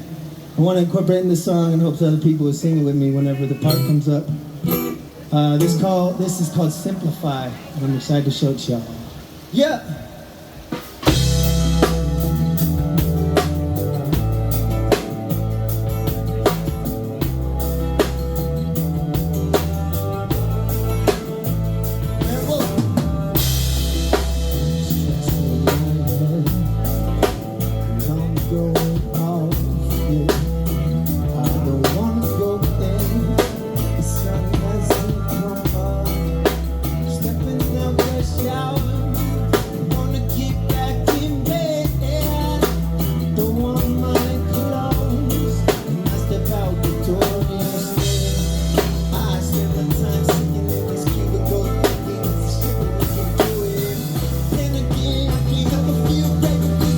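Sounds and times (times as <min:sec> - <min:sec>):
live band playing: 0:00.0 - 0:56.9
drum kit beat: 0:10.7 - 0:56.9.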